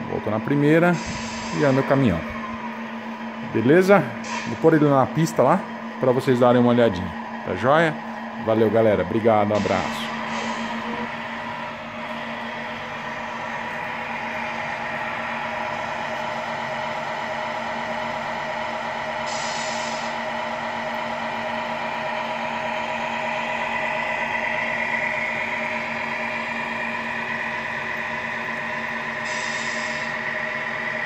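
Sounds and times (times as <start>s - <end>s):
simulated truck engine noise: 0.0s - 31.0s.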